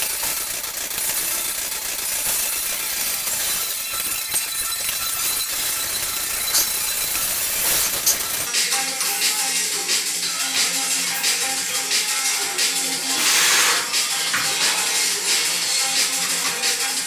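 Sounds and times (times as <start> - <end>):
cable hissing over pulleys: 0.0 - 17.0.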